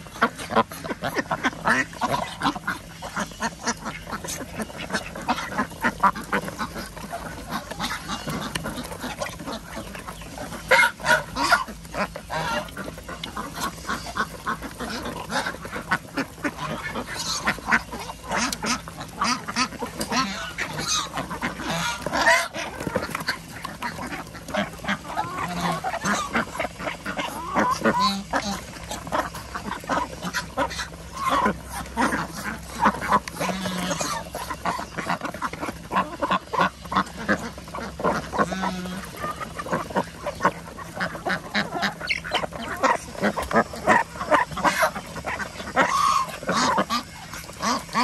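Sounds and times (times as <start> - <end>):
duck bills tapping in feed: 0.0 - 48.0
ducks quacking: 0.0 - 48.0.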